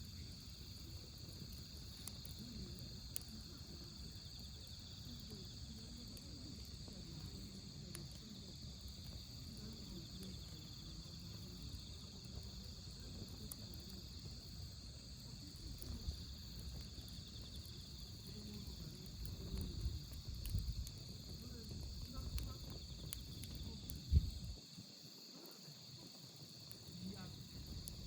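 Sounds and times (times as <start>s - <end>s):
campfire crackling: 0.0s - 28.0s
crickets trilling: 0.0s - 28.0s.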